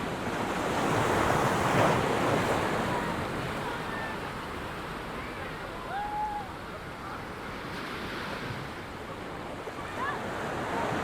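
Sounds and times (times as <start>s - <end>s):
ocean surf on beach: 0.0s - 11.0s.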